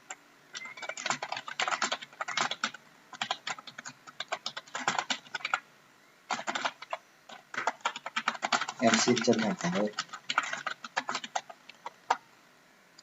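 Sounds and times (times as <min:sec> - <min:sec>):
computer keyboard typing: 0:00.0 - 0:05.6, 0:06.3 - 0:12.2.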